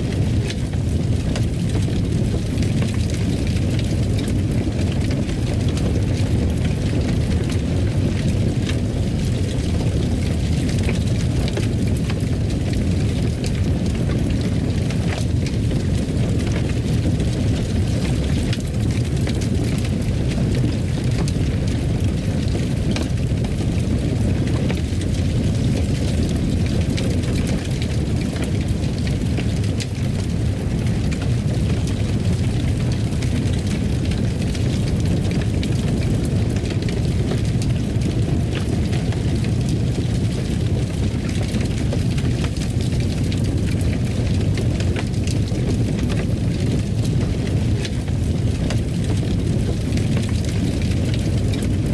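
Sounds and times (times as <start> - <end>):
fire crackles: 0.0 - 51.9
fire roaring in fireplace: 0.0 - 51.9.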